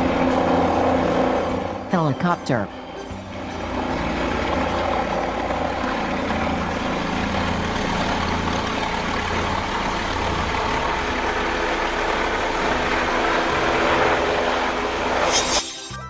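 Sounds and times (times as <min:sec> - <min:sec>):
helicopter engine and rotor: 0:00.0 - 0:15.5.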